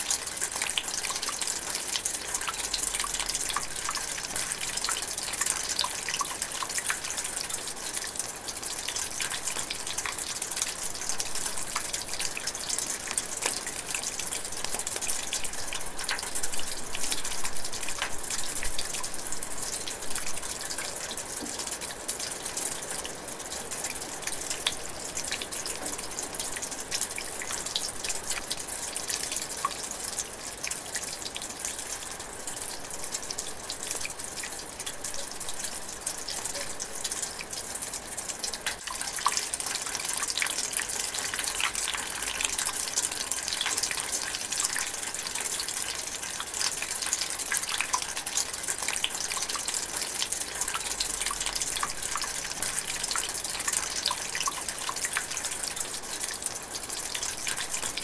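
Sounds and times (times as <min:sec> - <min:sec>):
light rain hiss: 0:00.0 - 0:58.0
raindrops ticking: 0:00.0 - 0:58.0.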